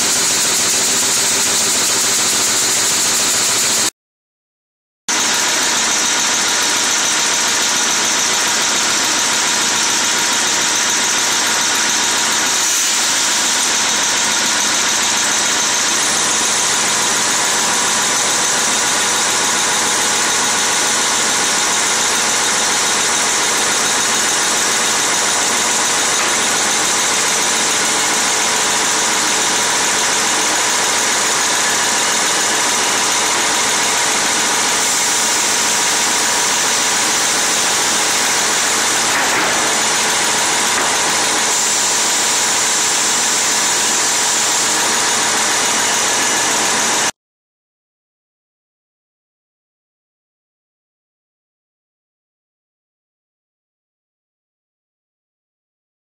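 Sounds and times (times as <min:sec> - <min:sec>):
sawmill saw and conveyors running: 0:00.0 - 0:03.9, 0:05.1 - 0:47.2.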